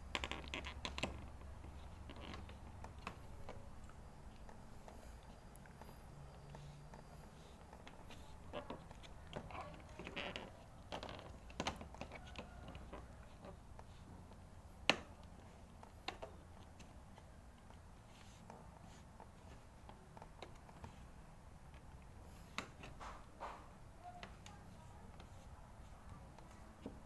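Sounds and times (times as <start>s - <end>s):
faint low hum: 0.0s - 27.0s
light clicks and taps of hand work: 0.0s - 27.0s.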